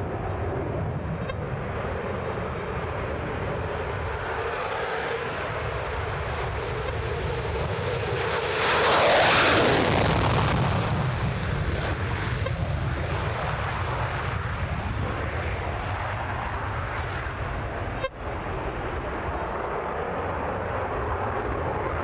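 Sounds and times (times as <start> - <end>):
jet engine running: 0.0 - 22.0.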